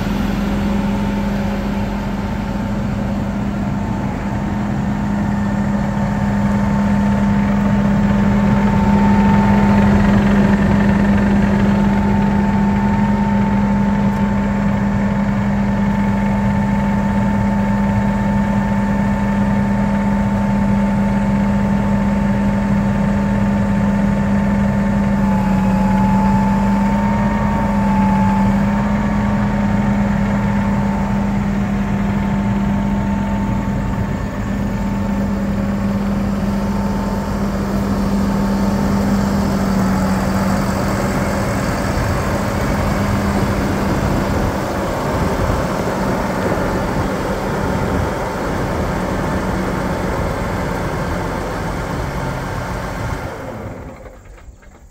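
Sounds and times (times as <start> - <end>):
tractor diesel engine idling: 0.0 - 54.9.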